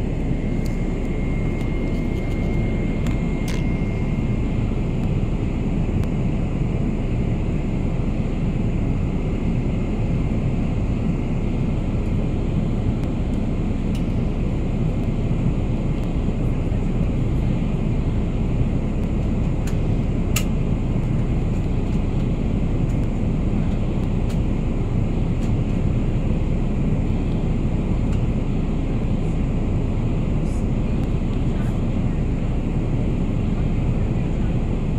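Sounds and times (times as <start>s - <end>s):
airplane cabin roar: 0.0s - 34.9s.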